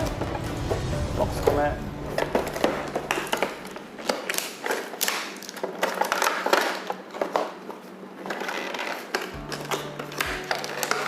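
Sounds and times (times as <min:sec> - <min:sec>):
packaging crinkling and rustling: 0:02.1 - 0:11.0.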